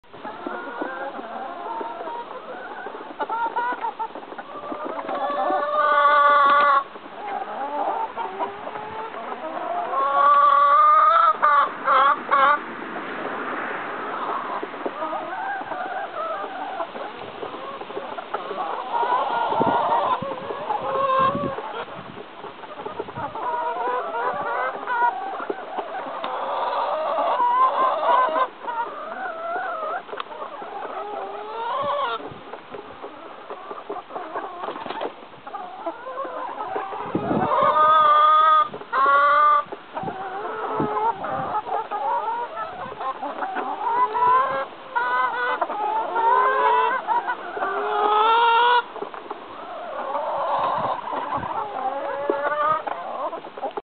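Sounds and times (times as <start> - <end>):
hens clucking and cackling: 0.0 - 53.8.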